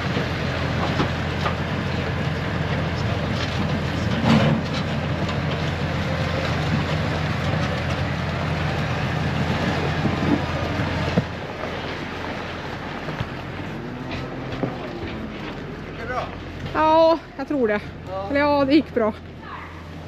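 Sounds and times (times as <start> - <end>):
tractor engine running: 0.0 - 20.0
trailer clunks: 0.0 - 20.0.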